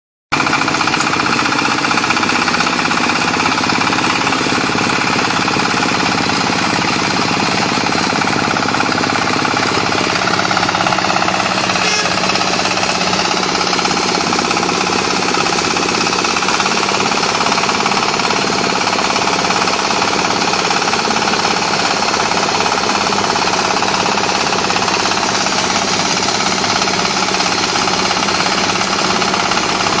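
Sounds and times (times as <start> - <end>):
small engine running under load: 0.3 - 30.0
cutter digging sandy soil: 0.4 - 30.0.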